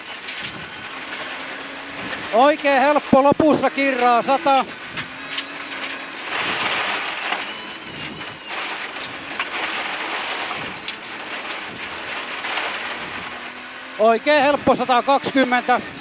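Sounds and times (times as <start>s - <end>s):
tyre and gravel rush: 0.0s - 16.0s.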